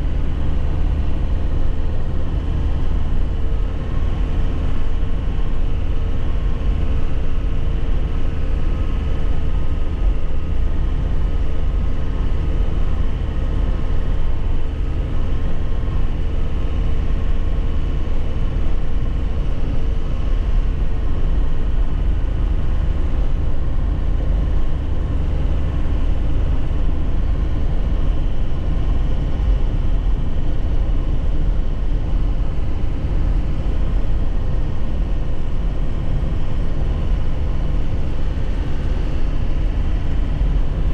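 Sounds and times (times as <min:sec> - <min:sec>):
diesel truck engine running: 0:00.0 - 0:40.9
road noise: 0:00.0 - 0:40.9.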